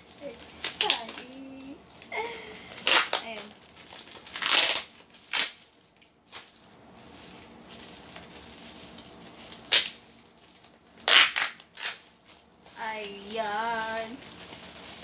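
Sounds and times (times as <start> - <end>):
plastic packaging crinkling and tearing: 0.0 - 15.0.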